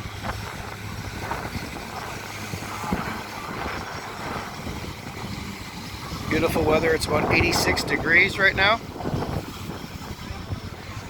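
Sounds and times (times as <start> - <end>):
ocean surf on rocky shore: 0.0 - 11.0
wind on microphone: 0.0 - 11.0.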